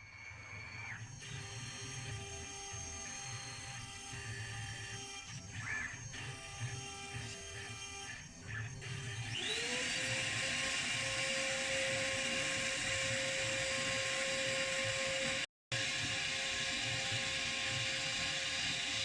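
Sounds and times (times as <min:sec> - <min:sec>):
router spindle motor whine: 0:00.0 - 0:19.0.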